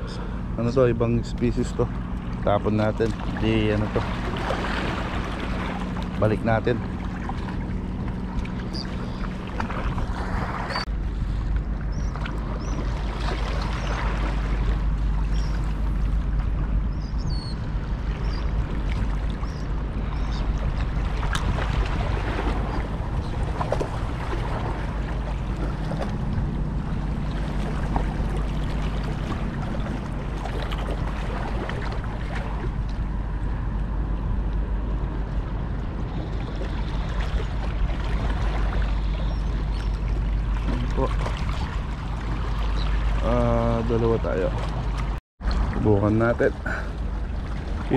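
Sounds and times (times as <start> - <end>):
low hum: 0.0 - 47.9
wind rumbling on microphone: 0.0 - 47.9.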